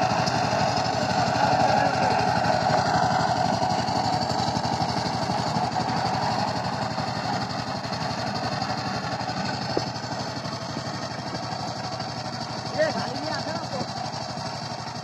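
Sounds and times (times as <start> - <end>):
power tiller diesel engine running: 0.0 - 15.0.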